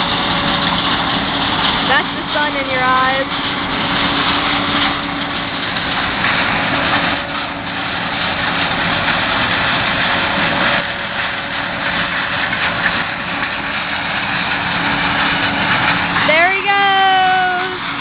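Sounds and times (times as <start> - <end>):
broad mechanical noise: 0.0 - 18.0
harvester engine hum: 0.0 - 18.0.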